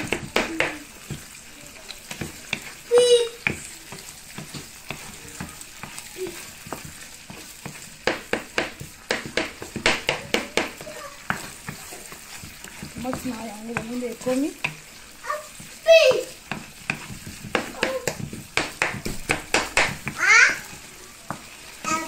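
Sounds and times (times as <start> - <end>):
sauce sizzling in a frying pan: 0.0 - 22.0
spatula scraping a pan: 0.0 - 22.0.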